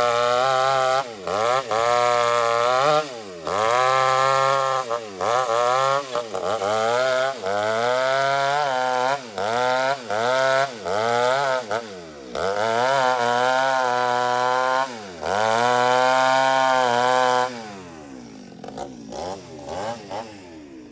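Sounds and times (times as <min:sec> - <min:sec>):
chainsaw cutting log: 0:00.0 - 0:20.9.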